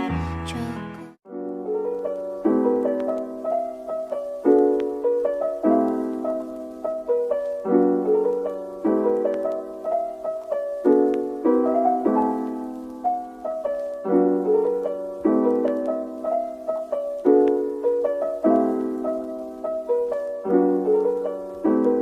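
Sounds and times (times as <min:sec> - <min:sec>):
piano playing chords: 0:00.0 - 0:22.0.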